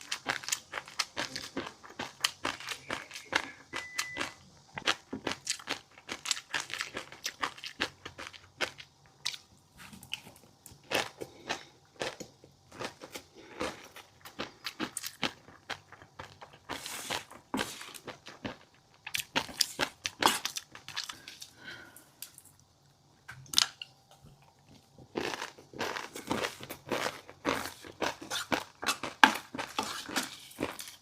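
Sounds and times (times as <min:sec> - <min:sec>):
crunchy eating: 0:00.0 - 0:31.0.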